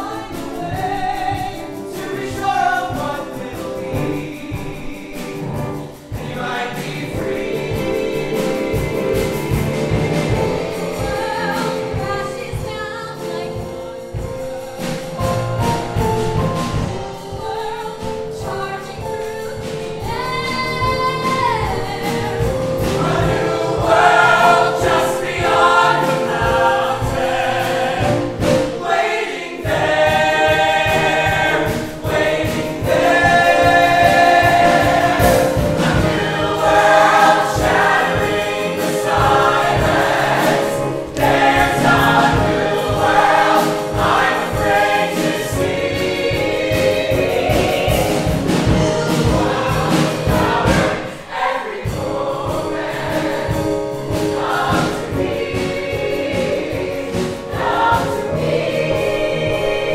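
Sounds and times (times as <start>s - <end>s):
chorus singing: 0.0s - 59.9s
instrumental accompaniment: 0.0s - 59.9s.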